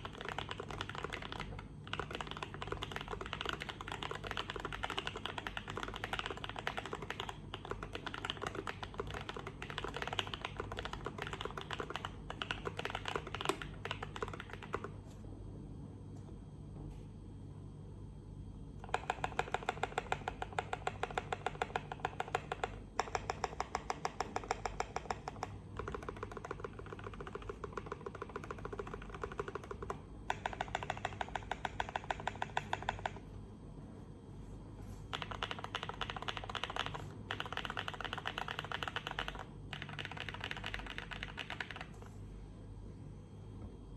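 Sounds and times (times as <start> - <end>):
mechanical keyboard typing: 0.0 - 15.0, 18.8 - 33.4, 35.0 - 42.2.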